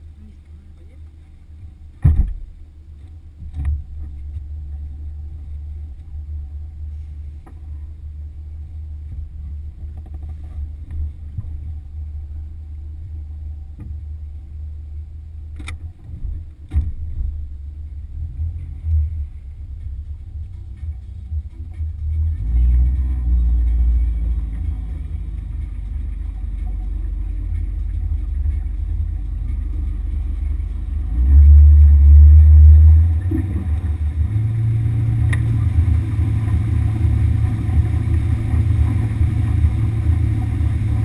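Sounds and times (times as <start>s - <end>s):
motorboat engine rumble: 0.0s - 41.0s.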